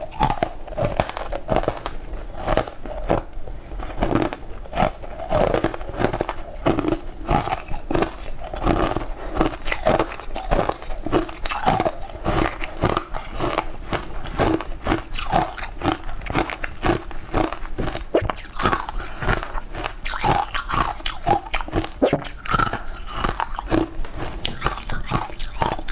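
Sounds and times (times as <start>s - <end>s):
person chewing crunchy food: 0.0s - 25.9s.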